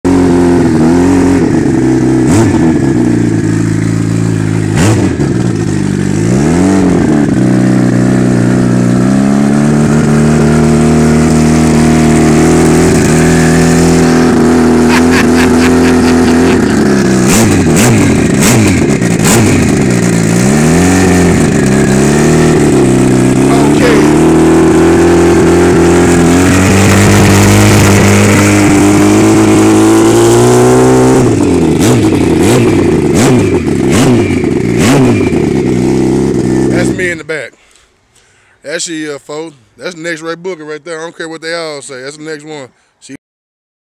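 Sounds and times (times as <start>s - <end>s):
motorcycle engine revving: 0.0s - 37.3s.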